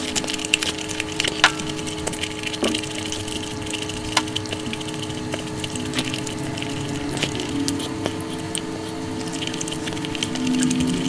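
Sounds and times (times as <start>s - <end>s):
sharp crackles: 0.0s - 11.0s
wet chewing and mouth clicks: 0.0s - 11.0s.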